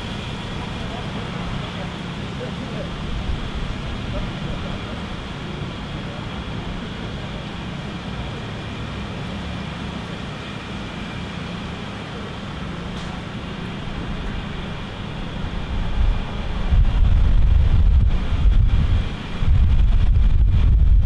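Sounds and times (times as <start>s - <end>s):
boat engine humming: 0.0s - 20.3s.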